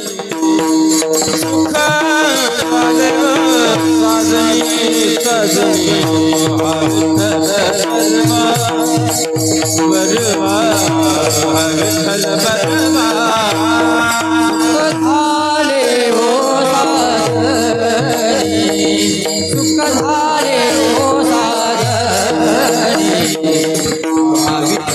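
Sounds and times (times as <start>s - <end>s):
held melodic drone: 0.0s - 24.9s
instrumental melody line: 0.0s - 24.9s
light rattling percussion: 0.0s - 24.9s.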